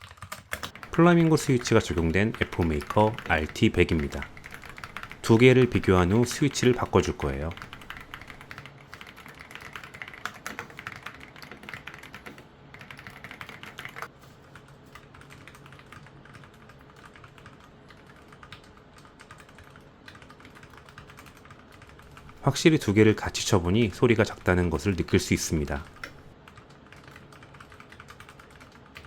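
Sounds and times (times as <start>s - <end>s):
fast typing on mechanical keyboard: 0.0s - 29.0s.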